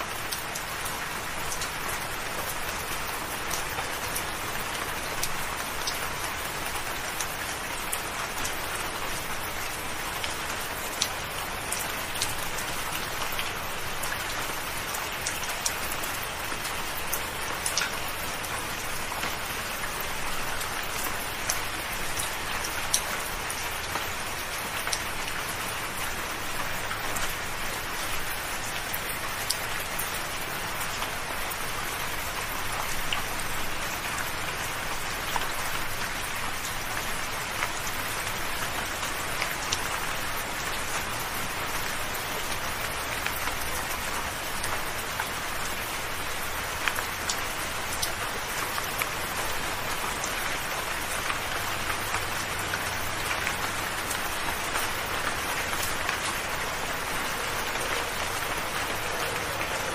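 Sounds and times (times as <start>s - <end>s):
gentle rain hiss: 0.0s - 59.9s.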